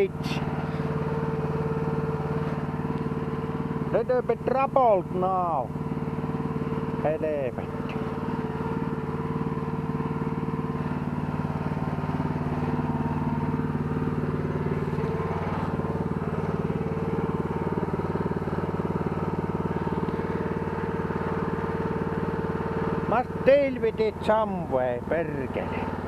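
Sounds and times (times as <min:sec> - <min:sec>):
small engine running steadily: 0:00.0 - 0:26.0.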